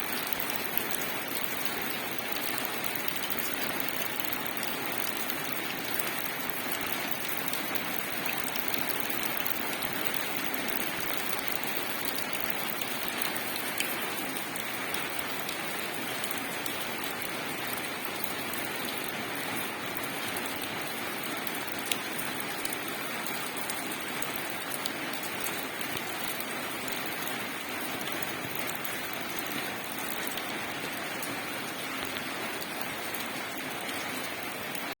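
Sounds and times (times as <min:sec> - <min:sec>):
rain on foliage: 0:00.0 - 0:35.0
sharp water drip: 0:00.0 - 0:35.0.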